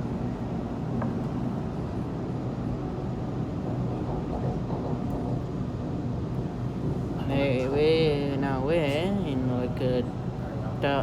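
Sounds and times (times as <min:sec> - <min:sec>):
electric train rumbling in tunnel: 0:00.0 - 0:11.0.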